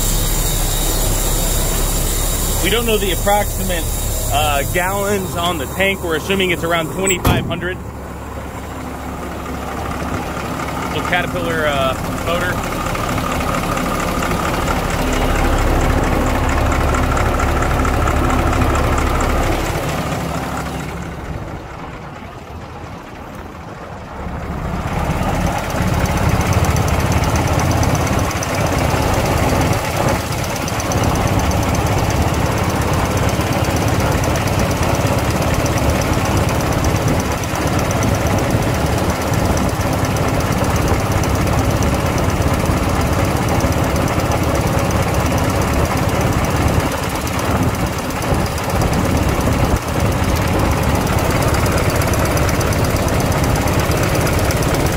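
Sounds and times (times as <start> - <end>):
diesel truck engine idling: 0.0 - 54.9.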